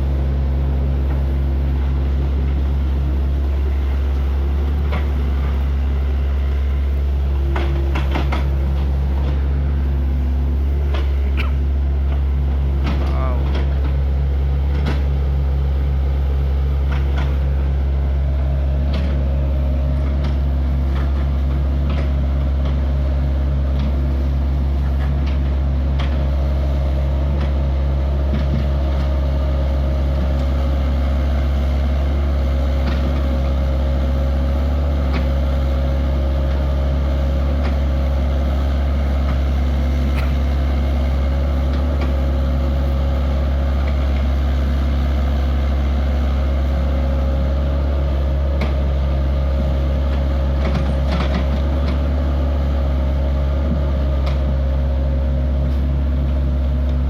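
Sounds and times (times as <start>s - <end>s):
excavator engine droning: 0.0s - 57.0s.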